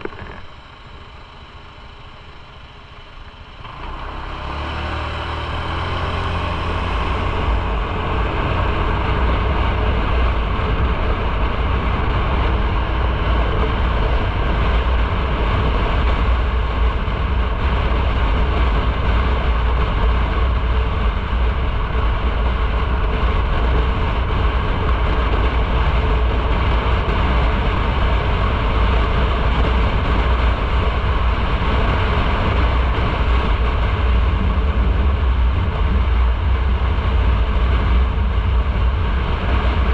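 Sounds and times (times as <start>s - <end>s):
motorcycle engine running: 0.0s - 39.9s
wind rushing on microphone: 5.0s - 39.9s.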